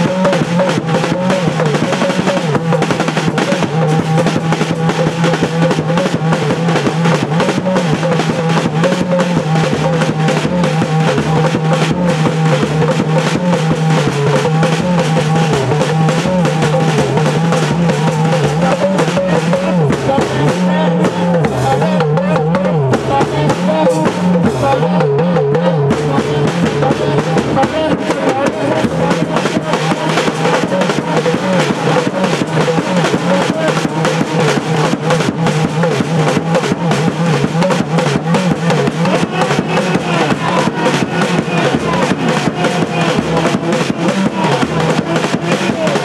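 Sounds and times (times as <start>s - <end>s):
quick drumming: 0.0s - 46.0s.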